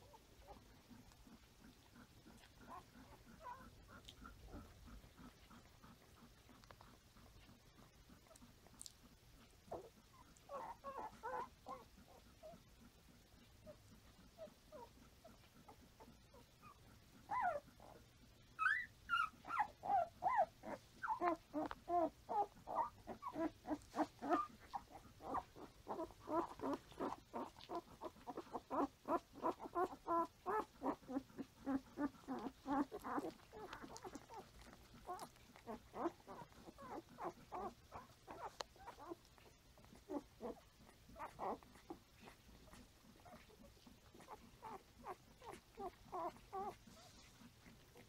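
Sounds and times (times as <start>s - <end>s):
puppies squeaking and whimpering: 0.0s - 9.0s, 9.7s - 12.6s, 13.6s - 48.0s.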